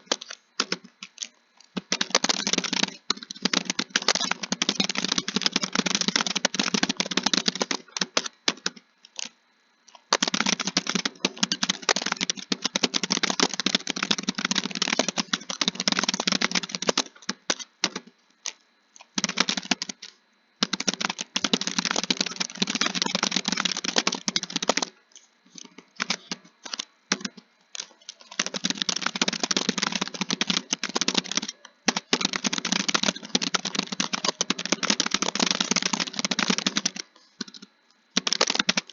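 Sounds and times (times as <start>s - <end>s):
fast keyboard typing: 0.0s - 9.3s, 9.9s - 38.9s.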